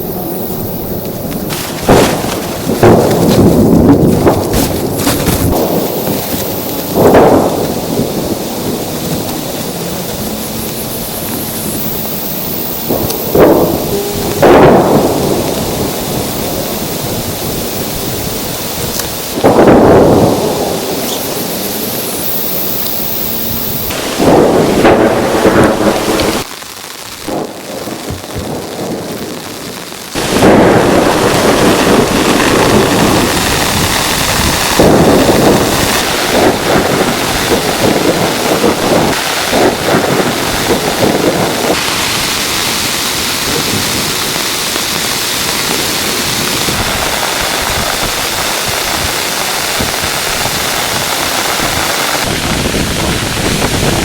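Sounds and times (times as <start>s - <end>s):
rumbling thunder: 0.0s - 44.8s, 45.4s - 54.0s
heavy rain: 0.0s - 54.0s.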